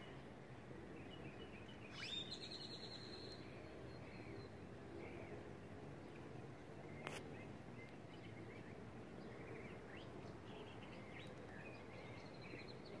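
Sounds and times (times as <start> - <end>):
steady background hiss: 0.0 - 13.0
faint small birds chirping: 0.9 - 5.4, 6.0 - 13.0.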